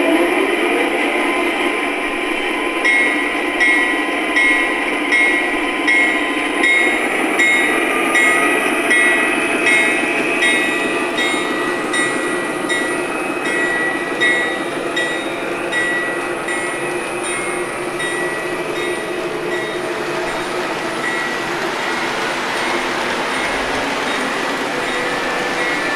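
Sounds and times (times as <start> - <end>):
locomotive bell ringing: 2.6 - 25.9.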